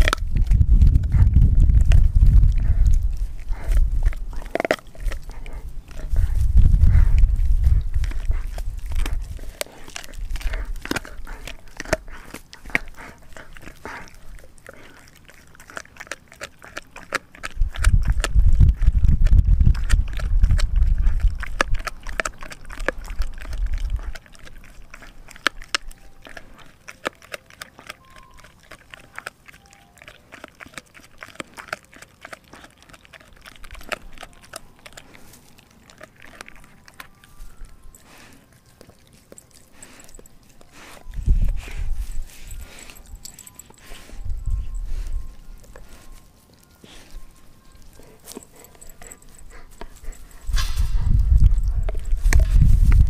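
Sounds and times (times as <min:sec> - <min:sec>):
puppy crunching on bone: 0:00.0 - 0:53.0.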